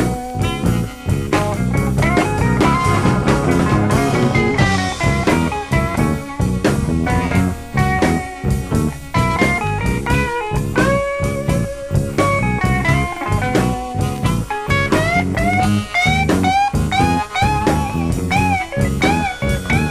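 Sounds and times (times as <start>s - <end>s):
electric blues band playing: 0.0s - 19.9s.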